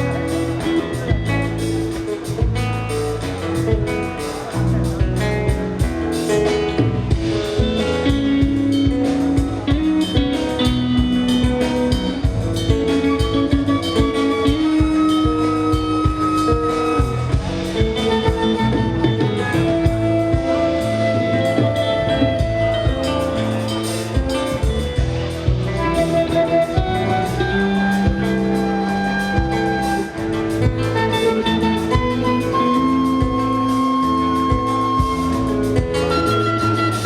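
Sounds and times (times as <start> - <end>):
bass: 0.0 - 37.0
drum kit beat: 0.0 - 37.0
guitar: 0.0 - 37.0.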